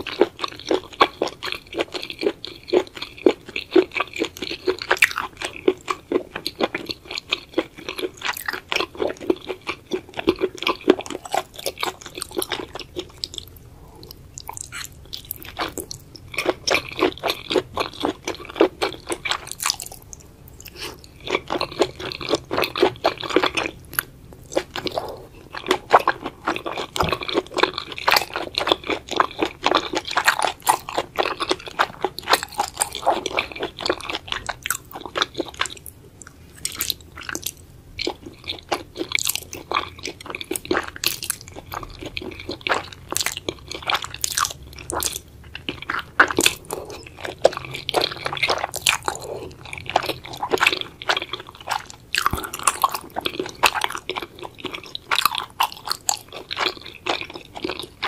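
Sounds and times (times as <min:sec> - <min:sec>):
close chewing and crunching: 0:00.0 - 0:58.0.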